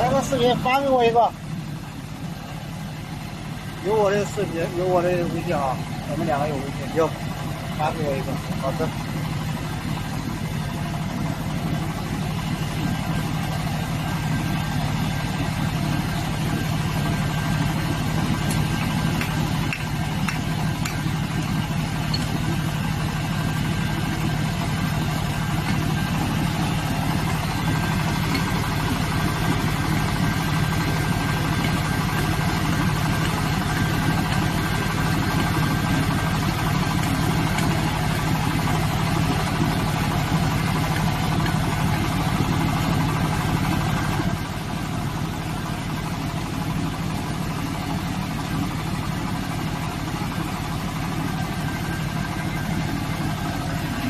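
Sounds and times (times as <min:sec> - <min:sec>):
drilling rig engine humming: 0:00.0 - 0:54.0.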